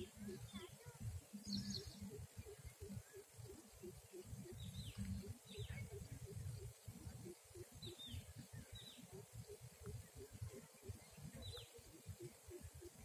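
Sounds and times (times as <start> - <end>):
faint bird chirps: 0.0 - 13.0
wind rumble on microphone: 0.0 - 13.0.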